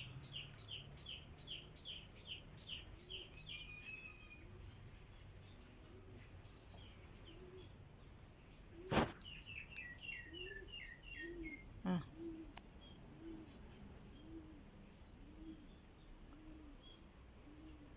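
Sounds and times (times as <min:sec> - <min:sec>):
bird chirping: 0:00.0 - 0:17.9.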